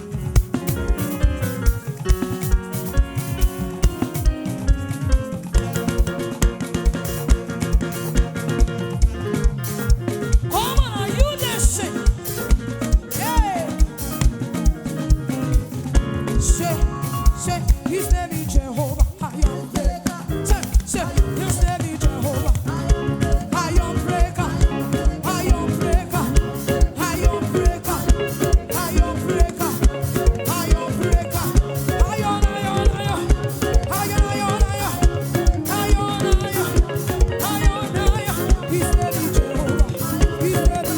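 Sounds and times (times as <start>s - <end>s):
gospel band playing upbeat groove: 0.0s - 40.9s.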